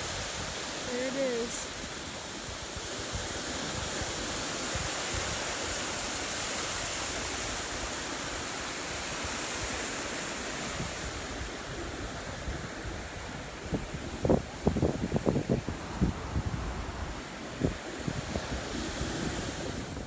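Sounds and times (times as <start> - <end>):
ocean surf washing: 0.0 - 20.0
wind buffeting microphone: 0.0 - 20.0.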